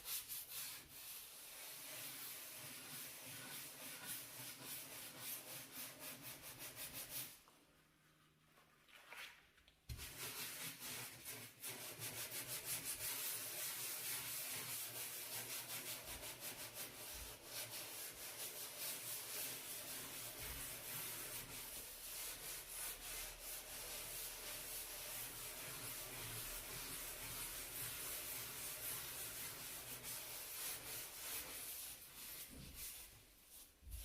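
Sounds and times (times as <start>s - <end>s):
brush scrubbing a stove: 0.0s - 7.4s, 9.9s - 34.0s.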